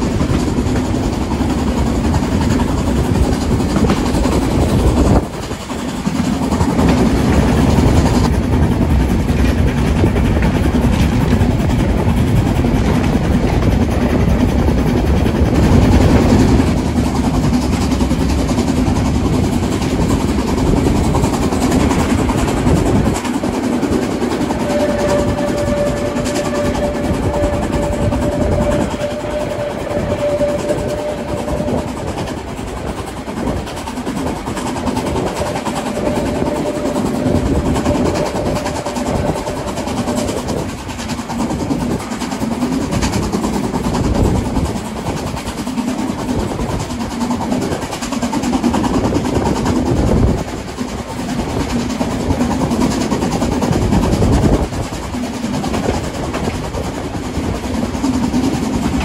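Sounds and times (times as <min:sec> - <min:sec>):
steam train rumbling: 0:00.0 - 0:59.0.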